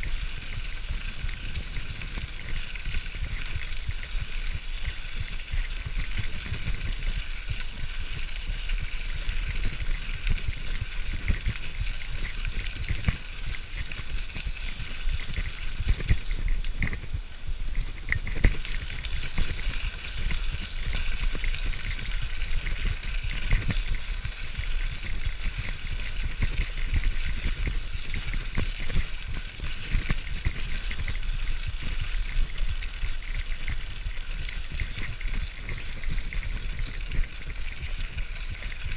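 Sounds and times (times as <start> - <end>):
bicycle tyres rumbling on gravel: 0.0 - 38.9
bike rattling: 0.0 - 38.9.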